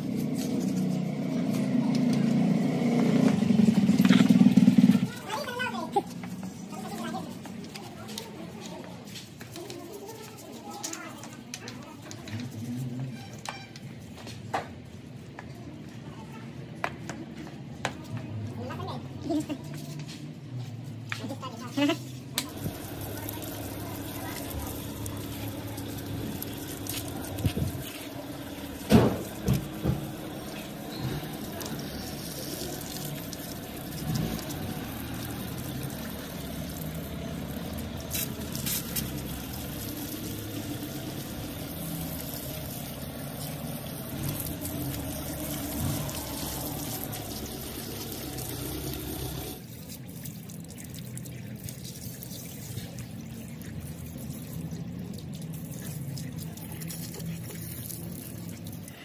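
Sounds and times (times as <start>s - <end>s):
hose water splashing: 0.0s - 14.1s, 21.2s - 59.0s.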